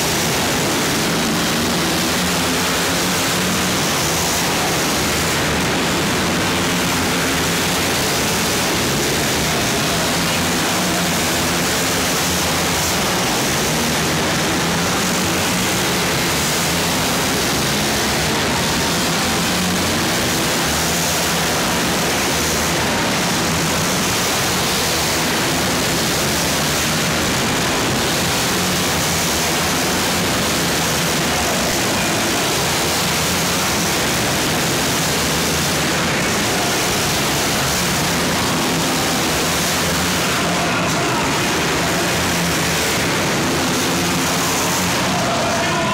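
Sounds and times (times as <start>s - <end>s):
atv engines racing: 0.0s - 45.9s.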